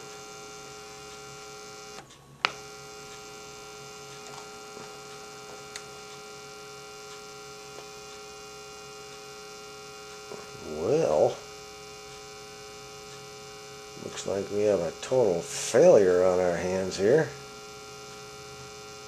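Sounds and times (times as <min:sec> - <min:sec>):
television electrical hum: 0:00.0 - 0:19.0.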